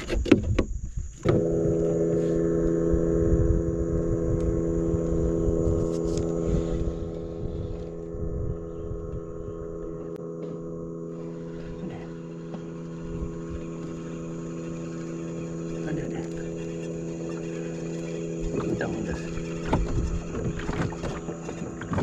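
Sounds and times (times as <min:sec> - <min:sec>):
wind rumbling on microphone: 0:00.0 - 0:22.0
boat engine humming: 0:00.7 - 0:22.0.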